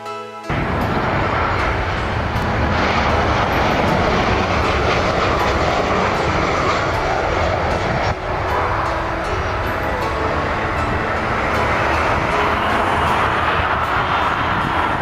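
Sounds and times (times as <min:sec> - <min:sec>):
jet airliner passing low: 0:00.5 - 0:15.0.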